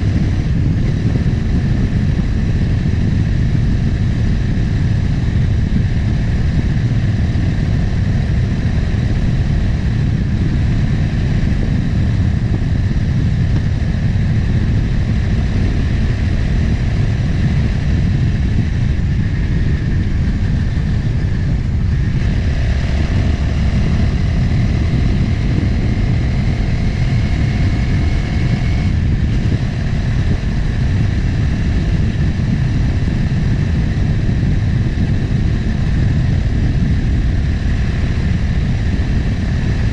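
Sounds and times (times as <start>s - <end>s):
higher whine: 0.0s - 39.9s
motorcycle engine running: 0.0s - 39.9s
wind rush on microphone: 0.0s - 39.9s.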